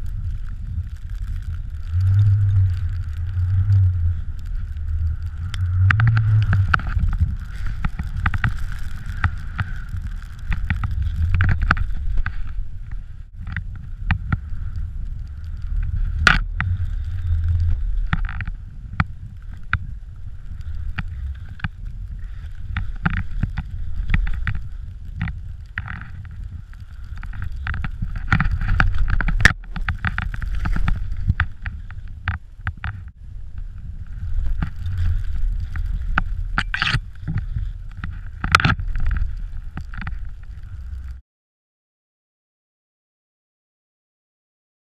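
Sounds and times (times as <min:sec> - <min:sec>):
wind on microphone: 0:00.0 - 0:41.2.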